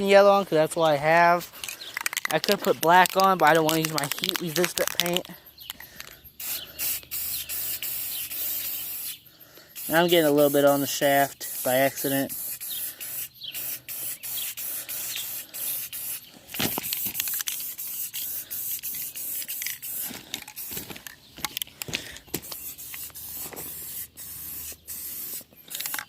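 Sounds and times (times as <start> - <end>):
spray paint can hissing: 1.6 - 5.7, 6.4 - 9.2, 9.8 - 21.6, 22.3 - 26.0.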